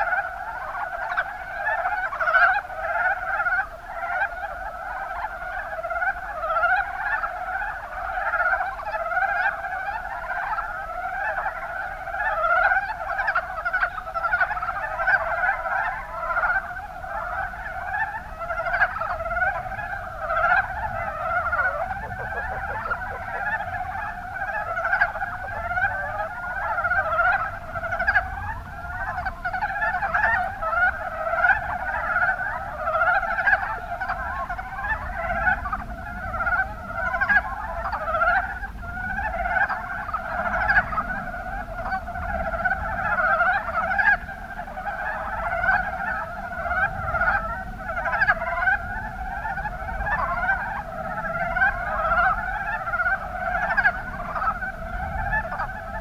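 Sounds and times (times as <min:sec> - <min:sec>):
frogs calling in chorus: 0:00.0 - 0:56.0.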